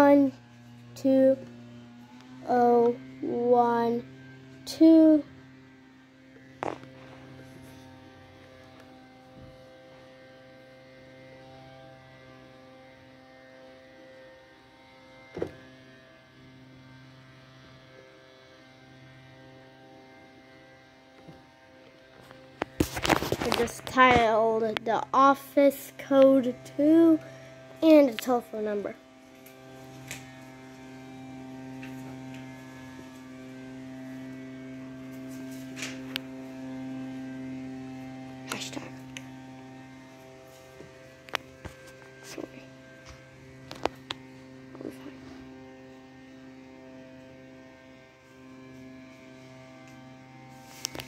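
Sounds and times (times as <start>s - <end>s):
faint buzzy electrical hum: 0.0s - 51.0s.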